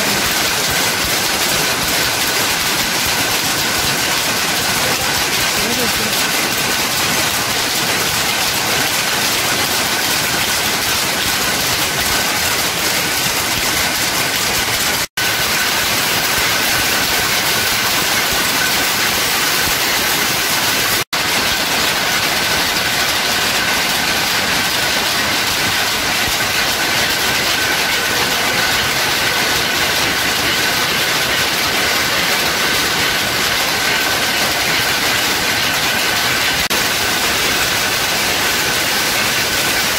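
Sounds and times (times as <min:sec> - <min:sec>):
power looms clattering: 0:00.0 - 0:39.9.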